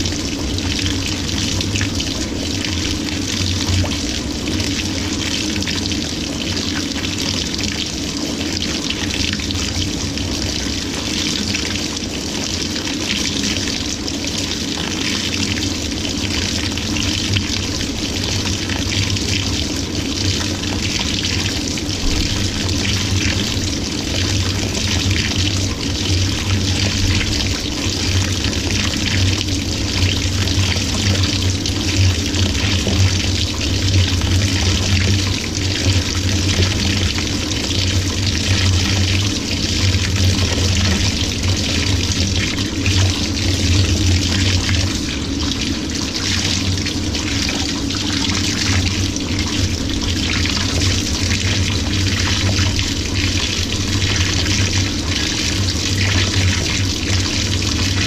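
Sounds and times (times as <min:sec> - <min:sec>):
water pouring into washing machine: 0:00.0 - 0:58.0.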